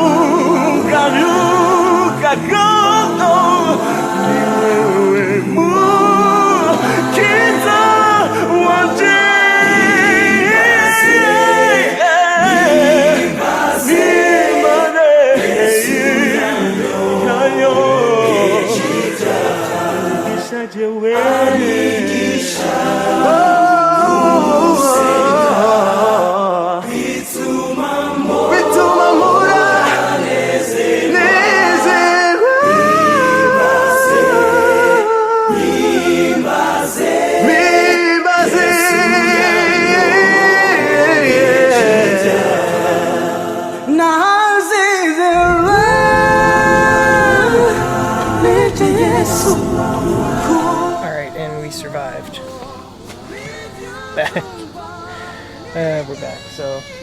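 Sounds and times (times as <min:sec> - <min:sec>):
choir singing a worship song: 0:00.0 - 0:57.0.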